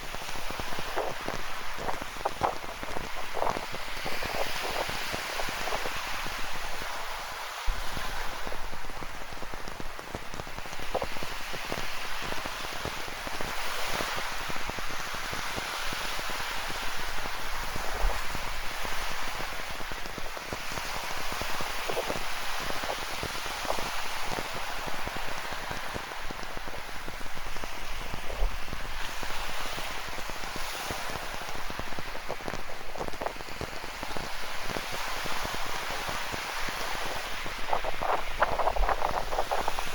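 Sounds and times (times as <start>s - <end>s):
ocean surf: 0.0s - 39.9s.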